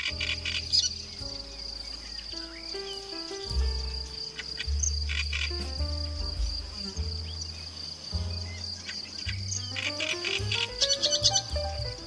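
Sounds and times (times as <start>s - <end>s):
high insect trill: 0.0s - 12.0s
reed warbler singing: 0.0s - 12.0s
soft background music: 0.0s - 12.0s.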